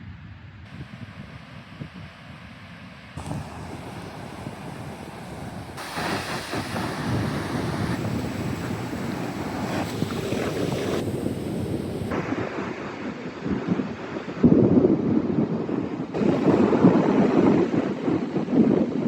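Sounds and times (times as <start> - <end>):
wind on microphone: 0.0 - 19.0
ocean waves breaking: 3.1 - 18.6.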